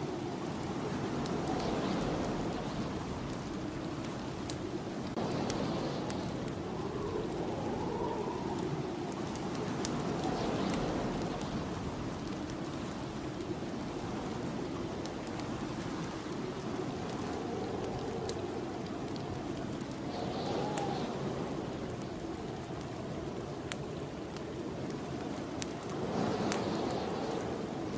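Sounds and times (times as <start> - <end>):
fireplace crackling: 0.0 - 27.9
snowstorm wind blowing: 0.0 - 27.9.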